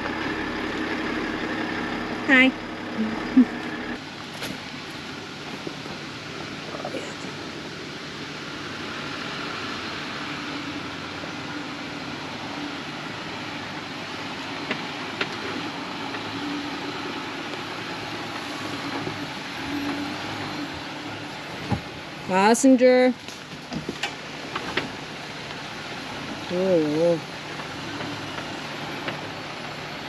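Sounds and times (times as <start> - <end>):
truck engine running at low speed: 0.0 - 30.0.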